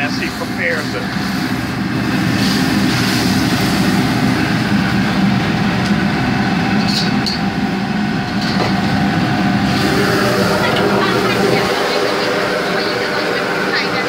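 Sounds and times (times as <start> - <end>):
cooking range roaring: 0.0 - 14.0.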